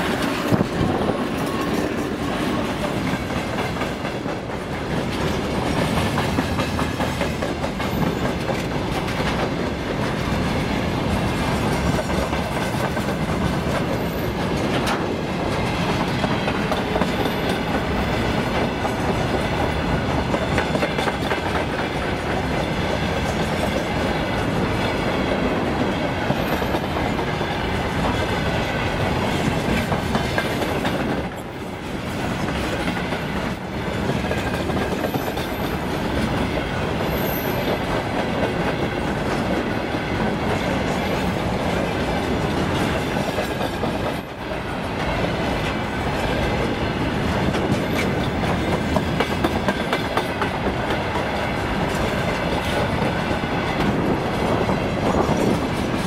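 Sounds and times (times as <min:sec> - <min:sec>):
train wheels clattering over rails: 0:00.0 - 0:56.0.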